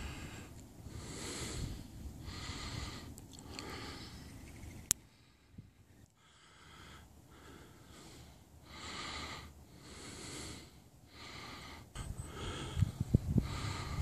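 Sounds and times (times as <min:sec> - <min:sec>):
person breathing: 0:00.0 - 0:04.4, 0:05.0 - 0:14.0.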